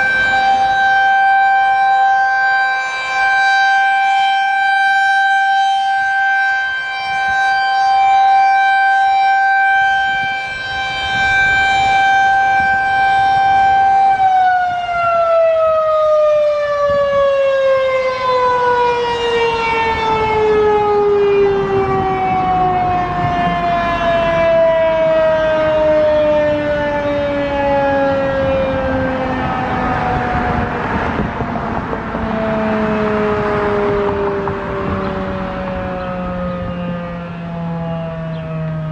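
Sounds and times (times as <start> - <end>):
rotating siren winding down: 0.0 - 38.9.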